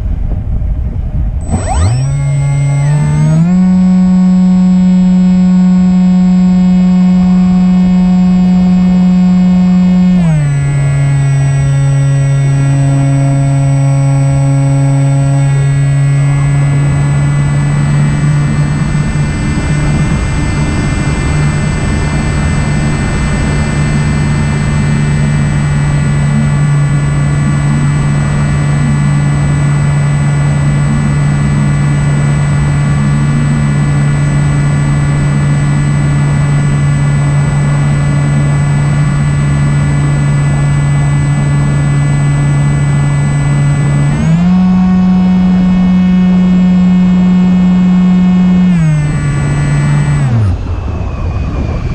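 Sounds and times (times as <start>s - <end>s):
wind noise: 0.0s - 51.9s
model plane motor droning: 1.4s - 51.9s.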